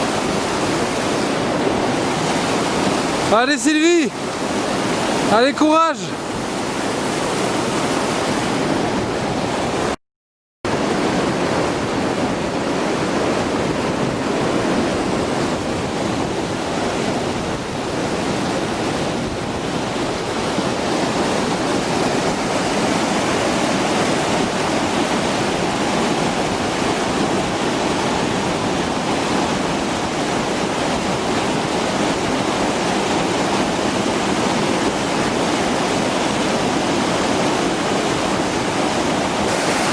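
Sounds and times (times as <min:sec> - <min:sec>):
fast-flowing river water: 0:00.0 - 0:10.0, 0:10.7 - 0:39.9.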